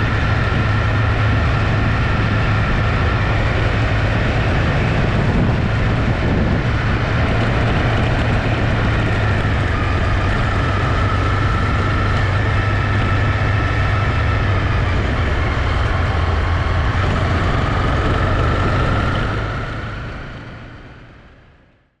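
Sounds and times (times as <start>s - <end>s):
motorcycle engine cruising: 0.0s - 21.6s.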